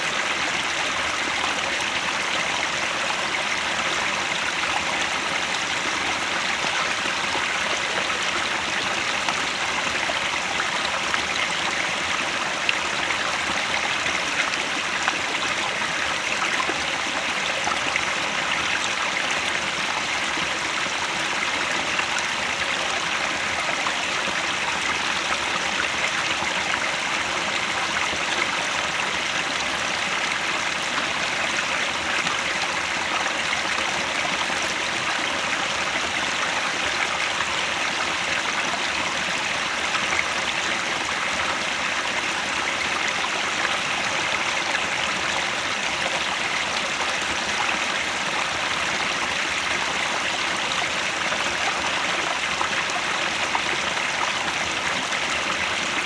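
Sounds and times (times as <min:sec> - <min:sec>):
mountain stream flowing: 0:00.0 - 0:56.0.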